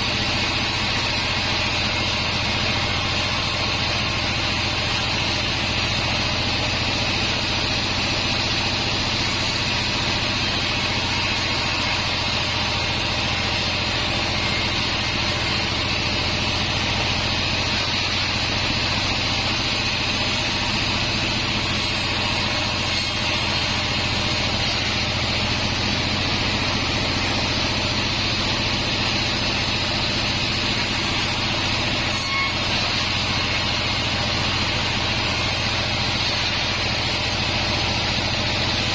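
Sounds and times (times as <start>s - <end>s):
band saw running: 0.0s - 38.9s.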